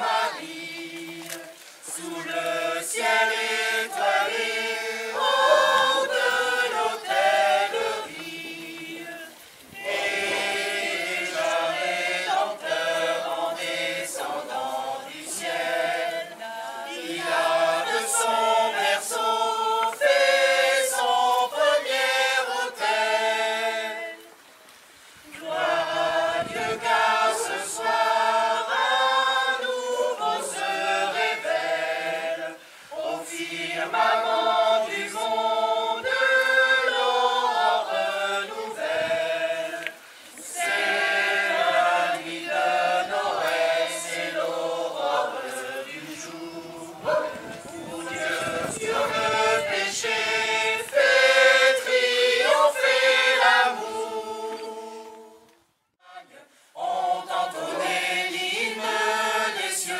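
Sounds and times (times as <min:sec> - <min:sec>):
choir singing: 0:00.0 - 0:24.4, 0:25.3 - 0:59.9.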